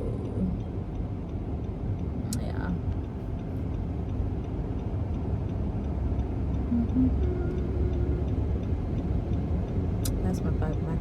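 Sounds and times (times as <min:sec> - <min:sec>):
car engine and road rumble: 0:00.0 - 0:11.0
faint regular ticking: 0:00.5 - 0:11.0.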